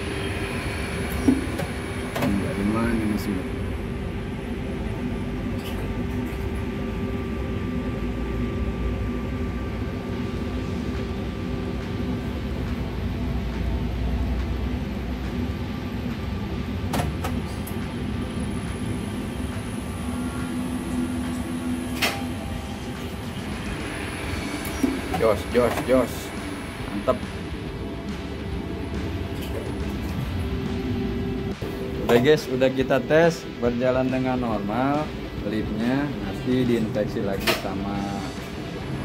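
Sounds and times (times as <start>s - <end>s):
elevator machine rumbling and humming: 0.0s - 39.0s.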